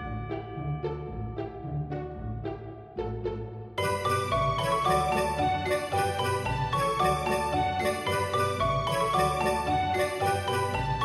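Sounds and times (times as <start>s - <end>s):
chiming melody: 0.0s - 2.6s, 3.8s - 11.0s
struck melodic notes: 0.0s - 11.0s.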